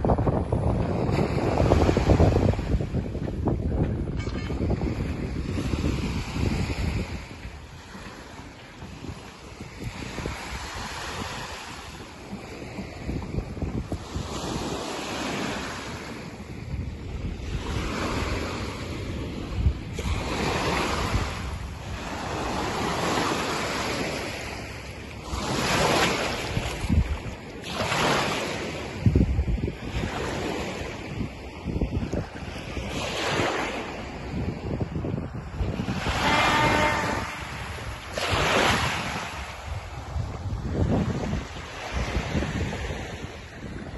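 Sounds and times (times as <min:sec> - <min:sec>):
wind buffeting microphone: 0:00.0 - 0:43.9
sea waves washing onto shore: 0:04.7 - 0:43.9.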